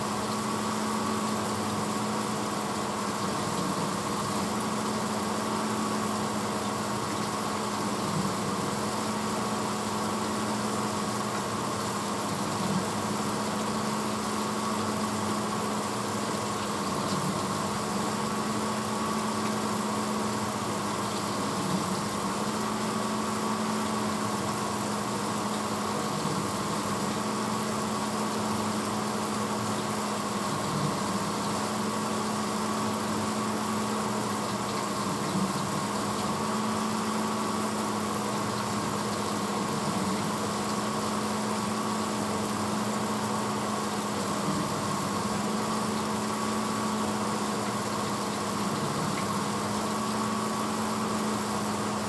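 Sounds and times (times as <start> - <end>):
dishwasher motor hum: 0.0 - 52.0
dishwasher water rush: 0.0 - 52.0.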